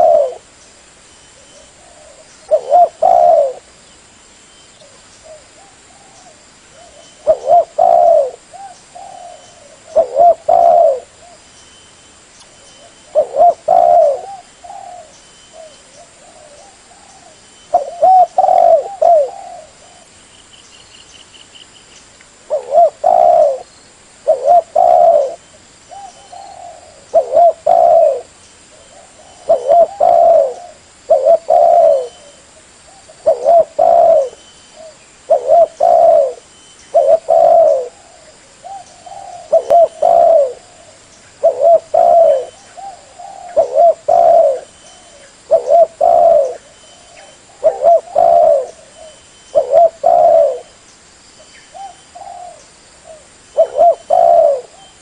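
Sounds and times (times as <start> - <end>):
dove cooing: 0.0 - 0.5, 1.4 - 3.8, 4.8 - 11.5, 12.8 - 20.2, 22.5 - 50.8, 51.7 - 55.0.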